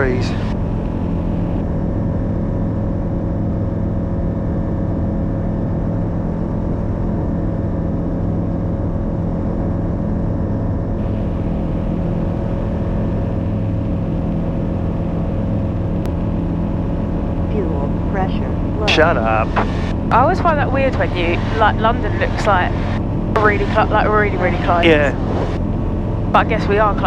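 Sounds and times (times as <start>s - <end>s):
light aircraft engine droning: 0.0s - 27.0s.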